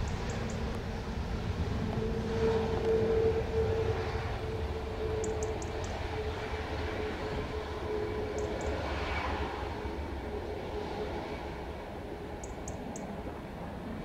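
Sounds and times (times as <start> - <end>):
jet engines rumbling with whine: 0.0 - 14.0.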